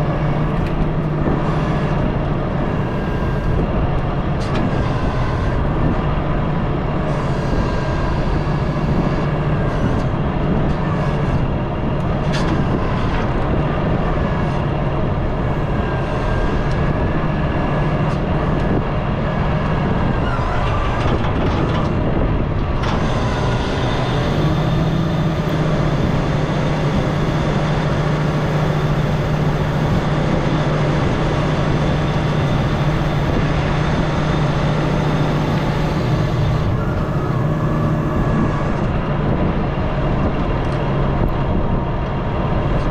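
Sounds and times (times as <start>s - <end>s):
excavator engine and hydraulics running: 0.0s - 42.9s.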